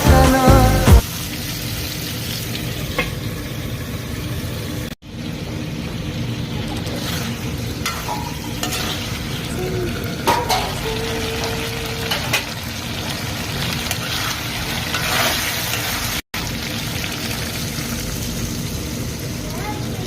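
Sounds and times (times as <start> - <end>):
chicken sizzling in a pan: 1.0 - 20.0.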